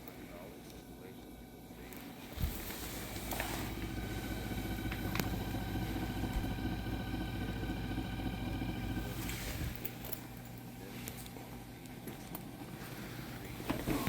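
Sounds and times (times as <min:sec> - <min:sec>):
dishwasher motor humming: 0:00.0 - 0:14.0.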